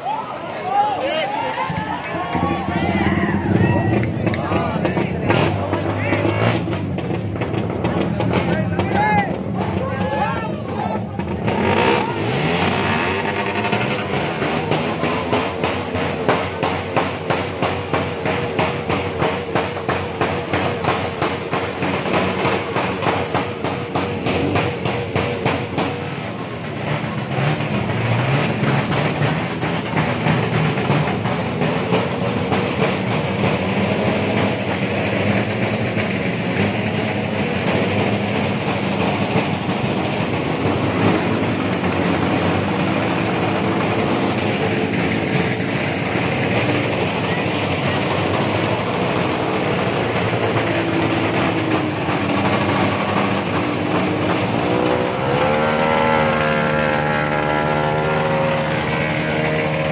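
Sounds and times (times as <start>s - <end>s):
crowd noise: 0.0s - 59.9s
motorcycle engines droning: 0.0s - 59.9s
engine revving: 2.4s - 9.0s, 11.0s - 59.9s.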